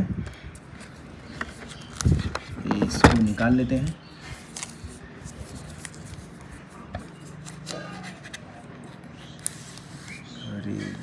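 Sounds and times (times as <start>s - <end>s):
cardboard and plastic film rustling: 0.6s - 10.2s.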